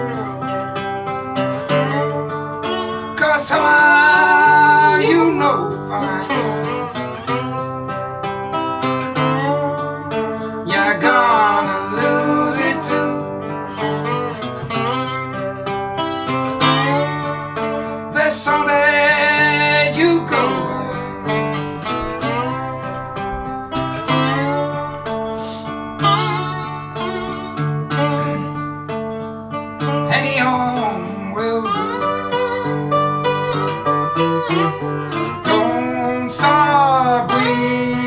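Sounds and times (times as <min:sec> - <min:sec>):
picked guitar with gliding notes: 0:00.0 - 0:38.0.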